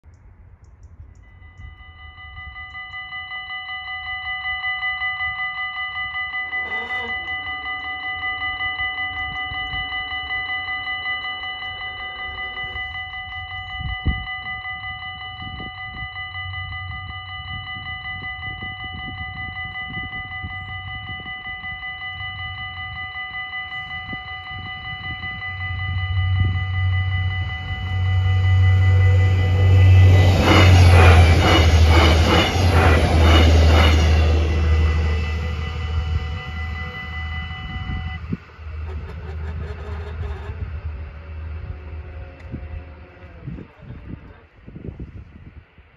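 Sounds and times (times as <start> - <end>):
level crossing bells ringing: 1.2 - 42.0
diesel train rumble: 6.2 - 45.8.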